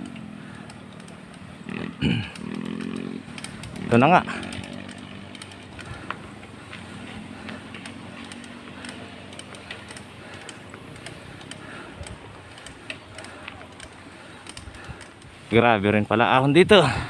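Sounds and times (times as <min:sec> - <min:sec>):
small clicks and rattles: 0:00.0 - 0:15.6
small motorcycle engine climbing: 0:00.0 - 0:17.0.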